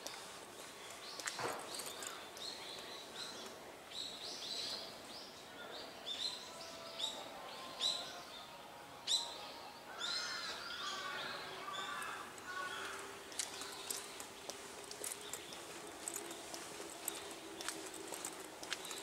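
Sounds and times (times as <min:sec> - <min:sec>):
birds chirping: 0:00.0 - 0:08.5, 0:09.1 - 0:19.0.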